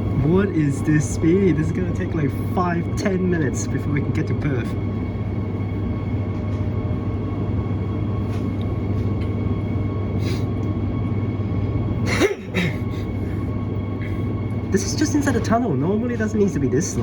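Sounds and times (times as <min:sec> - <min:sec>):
motor whine: 0:00.0 - 0:17.0
train low rumble: 0:00.0 - 0:17.0.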